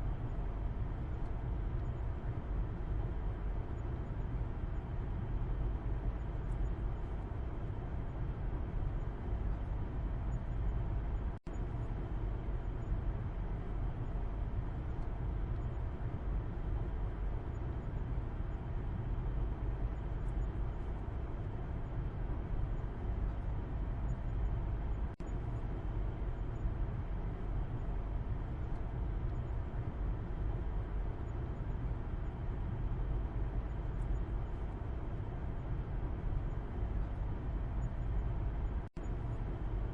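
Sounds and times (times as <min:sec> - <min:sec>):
car road rumble and engine drone: 0:00.0 - 0:39.9.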